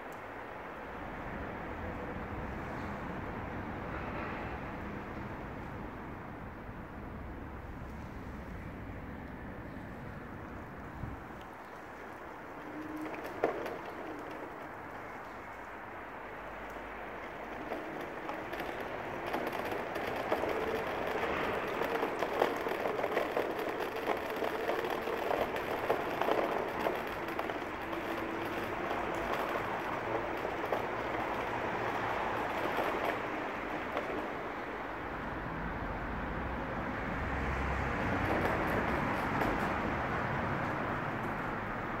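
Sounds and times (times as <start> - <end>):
hoverboard wheels rumbling on concrete: 0.0 - 42.0.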